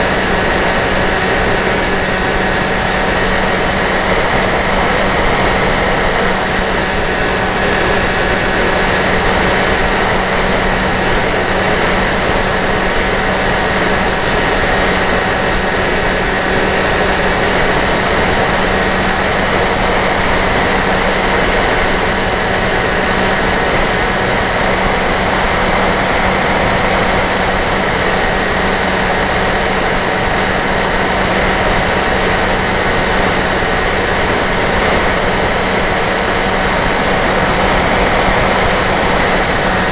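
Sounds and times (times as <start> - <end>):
electric motor and propeller drone: 0.0 - 39.9
rushing wind: 0.0 - 39.9.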